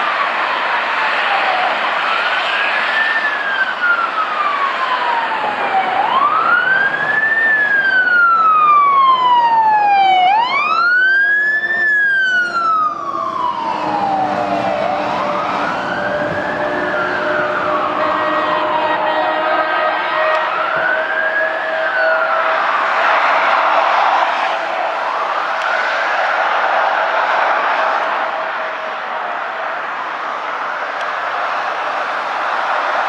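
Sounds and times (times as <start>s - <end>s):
fire engine siren wailing: 0.0s - 33.0s
road traffic noise: 0.0s - 33.0s.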